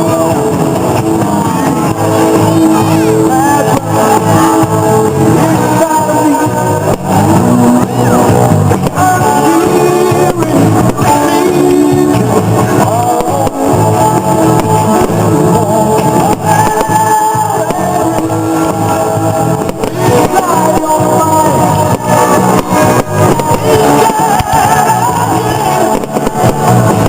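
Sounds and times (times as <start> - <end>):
rock music with singer and guitar: 0.0 - 27.0.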